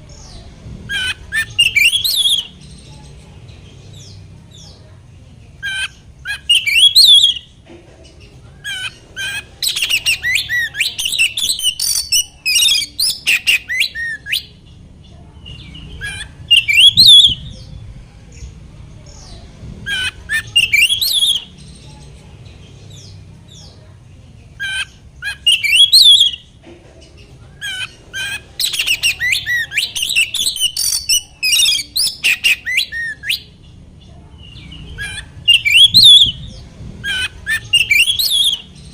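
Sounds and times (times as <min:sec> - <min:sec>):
songbird singing rapid whistles: 0:00.1 - 0:04.7, 0:05.6 - 0:07.6, 0:08.6 - 0:14.6, 0:15.4 - 0:23.8, 0:24.6 - 0:26.6, 0:27.6 - 0:33.6, 0:34.4 - 0:38.9.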